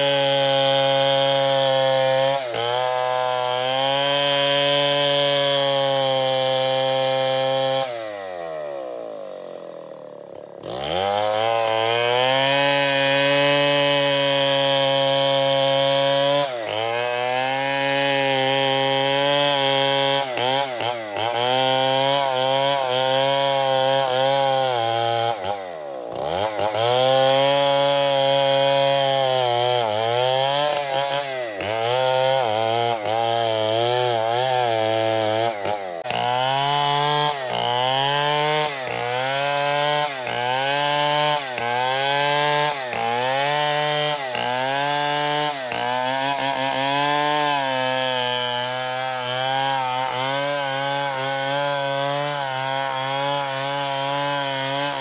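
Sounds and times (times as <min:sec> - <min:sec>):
chainsaw cutting wood at high revs: 0:00.0 - 0:55.0.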